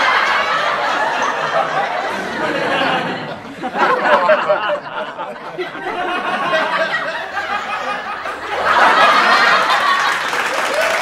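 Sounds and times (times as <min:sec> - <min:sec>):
audience laughter: 0:00.0 - 0:11.0.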